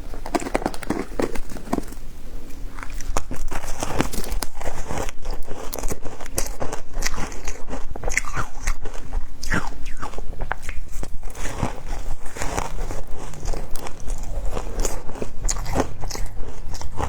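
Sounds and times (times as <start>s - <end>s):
ice being bitten and crunched: 0.2s - 17.0s.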